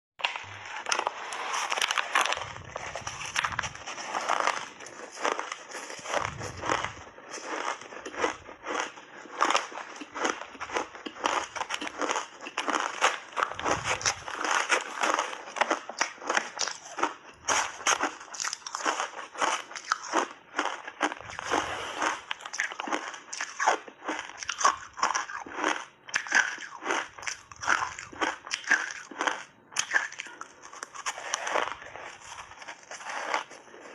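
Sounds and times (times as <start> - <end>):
crunching and chewing ice: 0.2 - 33.9.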